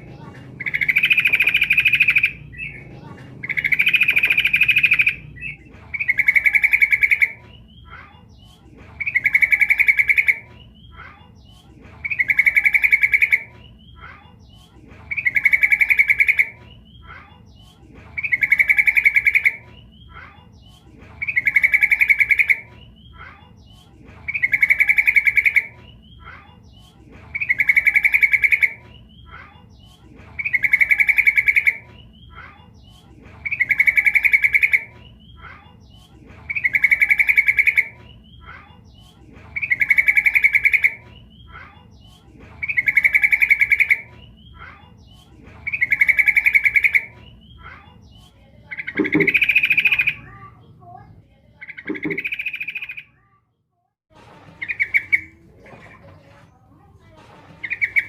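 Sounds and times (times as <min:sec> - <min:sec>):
bird calling with rapid chattering: 0:00.0 - 0:53.2, 0:54.5 - 0:56.1, 0:57.4 - 0:58.0.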